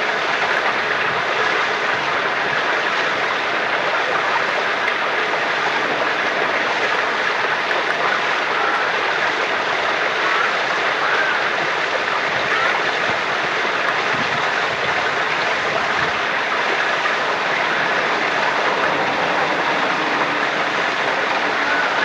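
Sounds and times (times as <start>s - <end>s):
spring water flowing: 0.0s - 22.0s.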